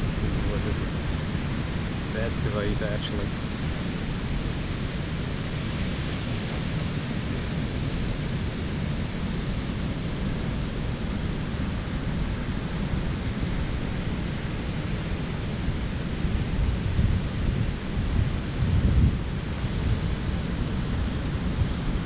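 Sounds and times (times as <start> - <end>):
ocean surf washing in: 0.0 - 22.0
wind rumbling on microphone: 0.0 - 22.0.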